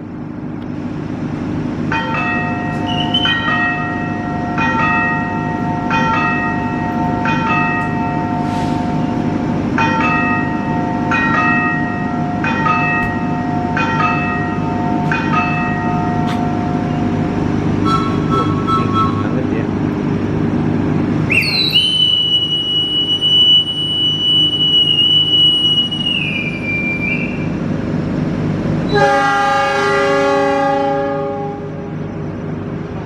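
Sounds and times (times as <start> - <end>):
diesel locomotive idling: 0.0 - 33.0.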